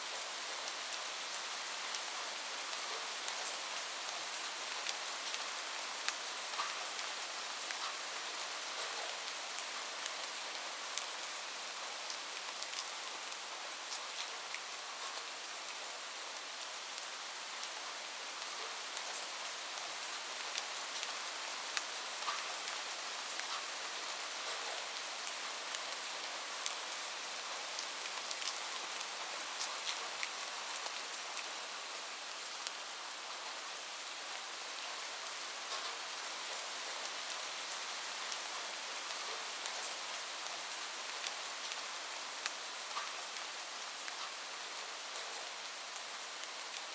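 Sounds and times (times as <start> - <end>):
rain on a roof: 0.0 - 46.9.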